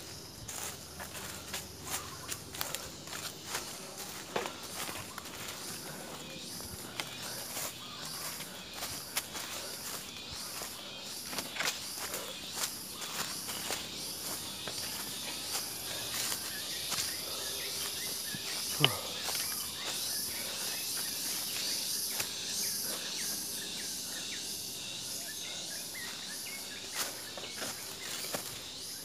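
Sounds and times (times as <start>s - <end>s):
footsteps crunching through dry leaves: 0.0s - 29.0s
insects droning: 0.0s - 29.0s.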